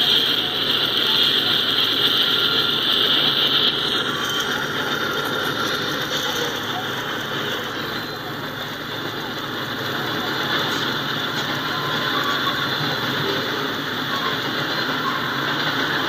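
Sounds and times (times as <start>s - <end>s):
diesel locomotives passing: 0.0s - 16.0s
high whine: 0.0s - 16.0s
train wheels rumbling on rail: 0.0s - 16.0s.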